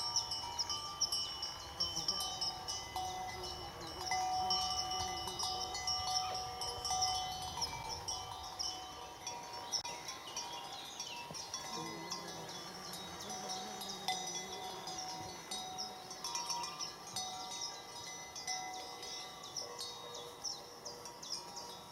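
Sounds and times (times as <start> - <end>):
horse bells clinking: 0.0 - 21.9.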